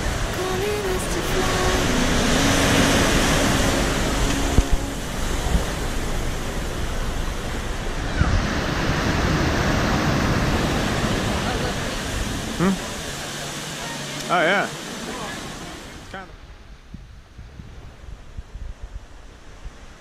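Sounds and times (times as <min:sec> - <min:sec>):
surf washing in a sea cave: 0:00.0 - 0:20.0.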